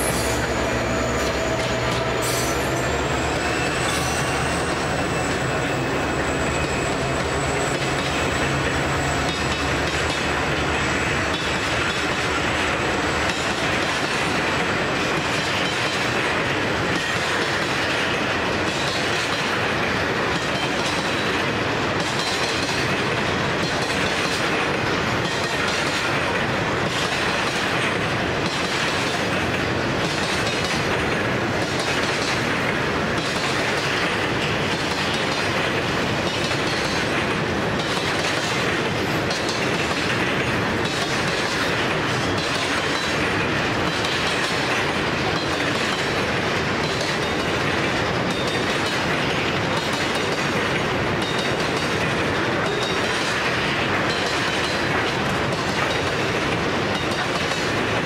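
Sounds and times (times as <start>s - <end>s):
freight train rolling past: 0.0s - 58.0s
wheels clicking over rail joints: 1.1s - 58.0s.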